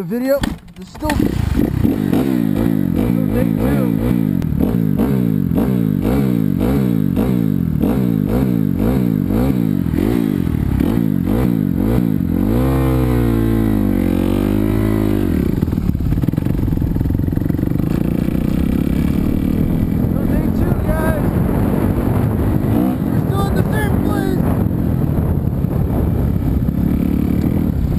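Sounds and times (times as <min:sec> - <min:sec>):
motocross bike engine revving: 0:00.5 - 0:27.9.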